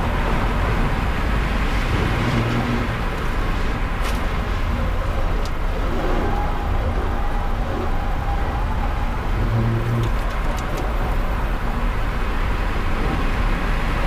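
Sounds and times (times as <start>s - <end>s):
low car rumble: 0.0s - 14.0s
tyre and wind noise: 0.0s - 14.0s.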